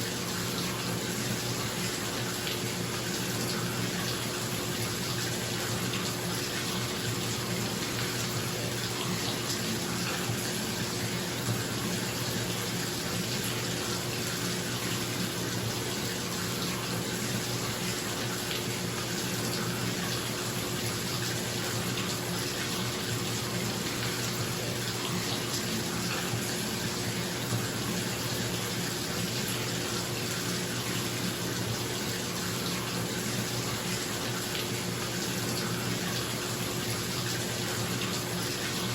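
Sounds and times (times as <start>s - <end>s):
water pouring into bathtub: 0.0s - 38.9s.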